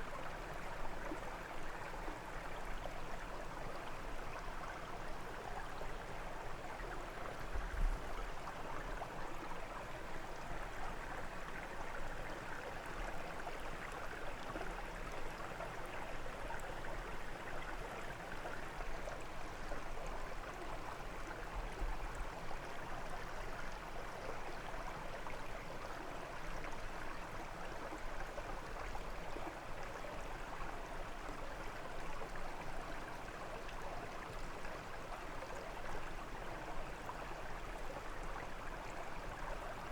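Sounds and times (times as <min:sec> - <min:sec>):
brook water over stones: 0:00.0 - 0:39.9.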